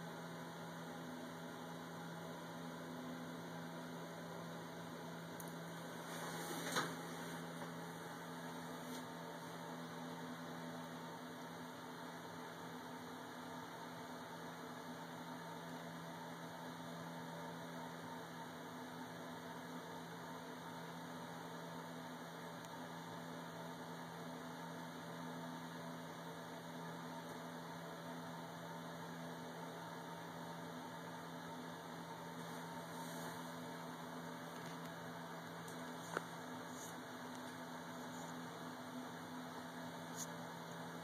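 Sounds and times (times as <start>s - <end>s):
low hum with hiss: 0.0s - 41.0s.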